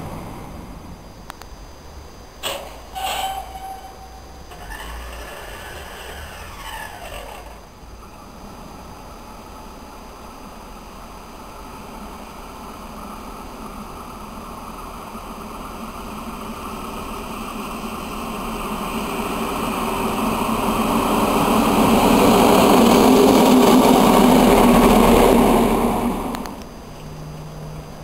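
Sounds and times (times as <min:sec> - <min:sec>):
diesel locomotive engine: 0:00.0 - 0:28.0.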